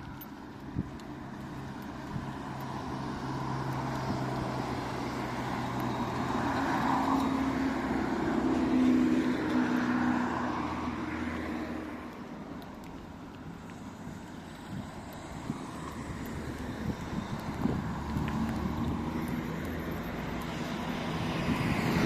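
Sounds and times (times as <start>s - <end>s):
vehicle passing: 1.1s - 22.0s.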